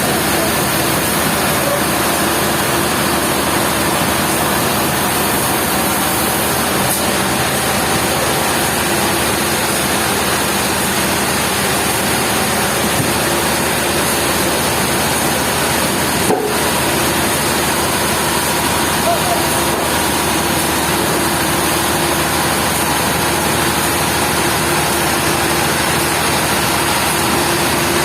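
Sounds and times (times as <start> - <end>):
sawmill machinery running: 0.0 - 28.0.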